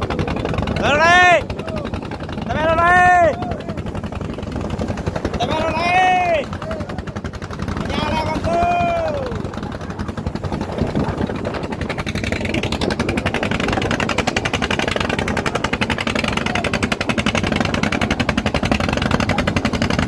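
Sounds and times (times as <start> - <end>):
boat engine putt-putt: 0.0 - 20.0.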